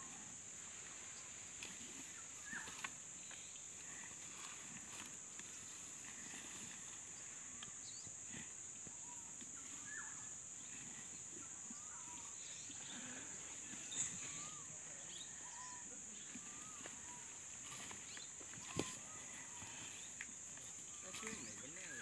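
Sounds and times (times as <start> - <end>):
insect drone: 0.0 - 22.0.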